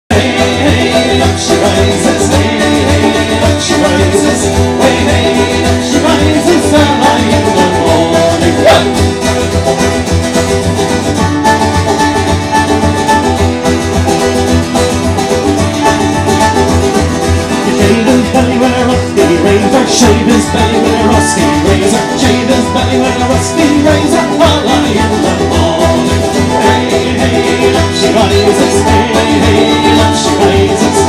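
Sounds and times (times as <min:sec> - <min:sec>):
fiddle: 0:00.1 - 0:31.0
frame drum beat: 0:00.1 - 0:31.0
strummed acoustic guitars: 0:00.1 - 0:31.0.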